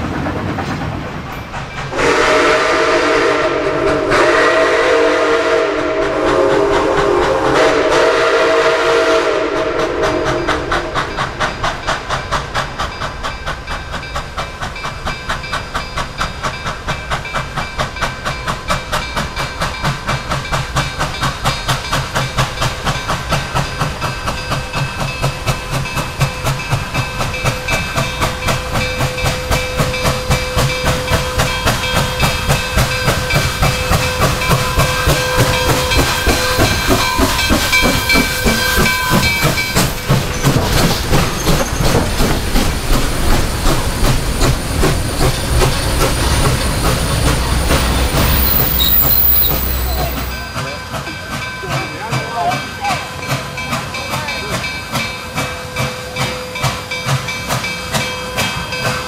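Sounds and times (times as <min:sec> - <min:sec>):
steam hissing: 0:00.0 - 0:59.0
steam locomotive exhaust chuff: 0:00.0 - 0:59.0
steam locomotive chime whistle: 0:01.9 - 0:11.8, 0:14.8 - 0:42.0, 0:45.1 - 0:59.0.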